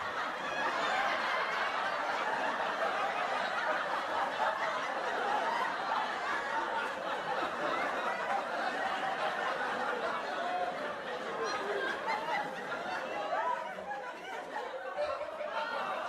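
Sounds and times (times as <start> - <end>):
crowd laughing: 0.0 - 16.0.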